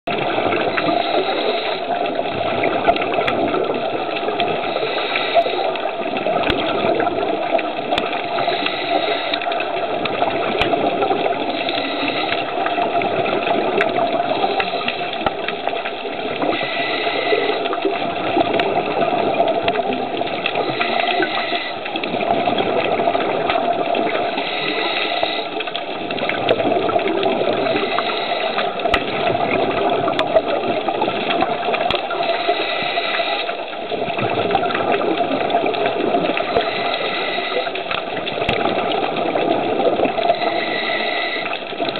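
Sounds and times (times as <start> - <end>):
underwater water rush: 0.0 - 41.9
regulator exhale bubbles: 0.1 - 41.9.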